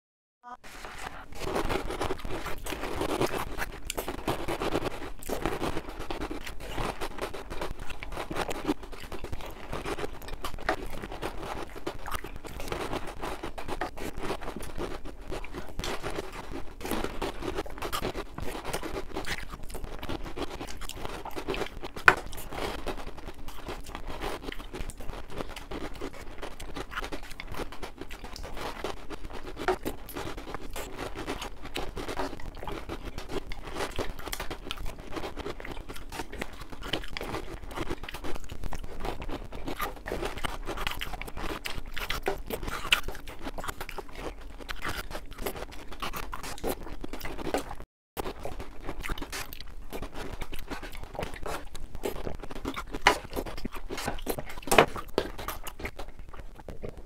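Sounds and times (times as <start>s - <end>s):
cereal crunching: 0.7s - 57.0s.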